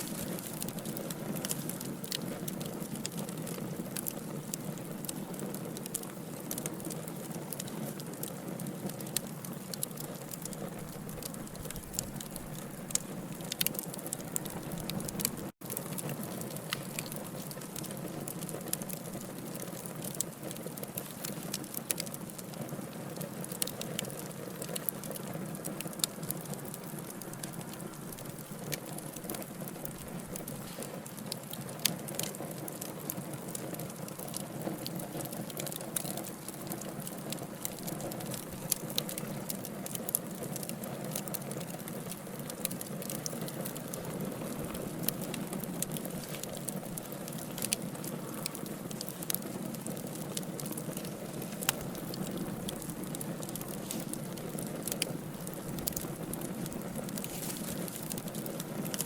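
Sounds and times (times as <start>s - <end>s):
log fire crackling: 0.0s - 59.0s.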